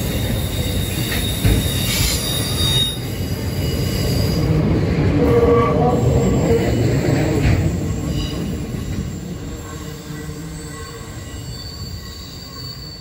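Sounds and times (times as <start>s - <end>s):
freight train wheels rumbling: 0.0s - 13.0s
high wheel squeals: 0.0s - 13.0s.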